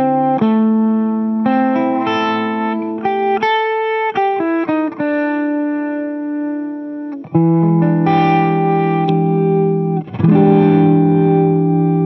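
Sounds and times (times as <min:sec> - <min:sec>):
electric guitar with phaser: 0:00.0 - 0:12.0.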